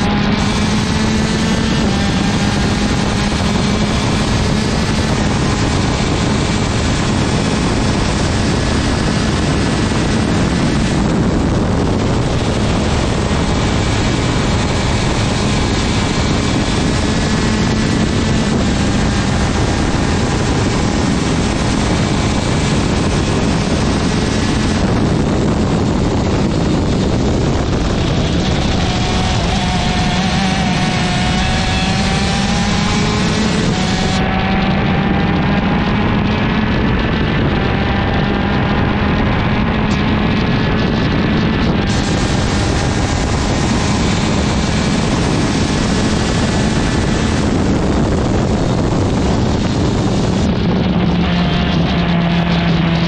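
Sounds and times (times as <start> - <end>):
kart engine running hard: 0.0 - 53.0
wind noise on microphone: 0.0 - 53.0.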